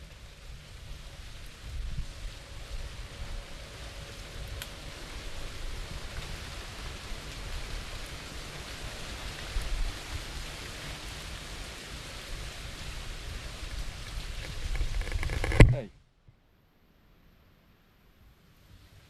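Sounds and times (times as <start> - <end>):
steady rain falling: 0.0 - 15.9, 16.5 - 19.0.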